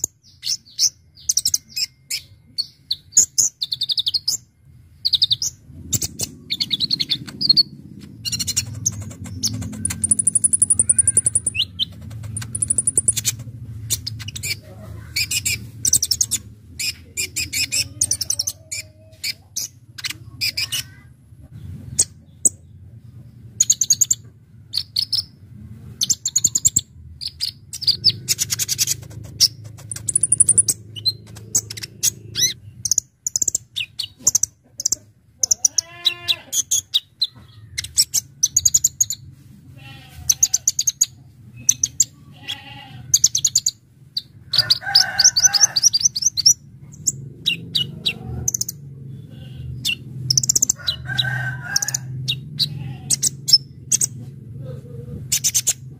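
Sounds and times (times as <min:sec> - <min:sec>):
bird singing high chirps and trills: 0:00.0 - 0:21.0, 0:21.9 - 0:25.4, 0:26.0 - 0:39.2, 0:40.0 - 0:51.1.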